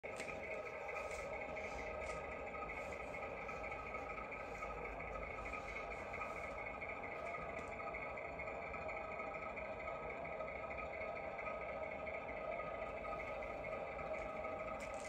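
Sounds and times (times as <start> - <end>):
model diesel engine through small speaker: 0.0 - 15.0.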